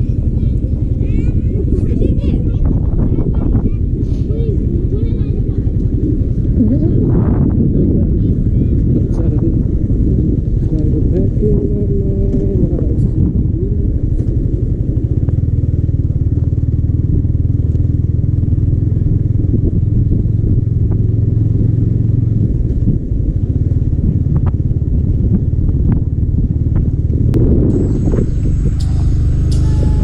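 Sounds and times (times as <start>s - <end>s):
motorcycle engine running: 0.0s - 9.0s, 9.7s - 30.0s
wind buffeting microphone: 0.0s - 30.0s.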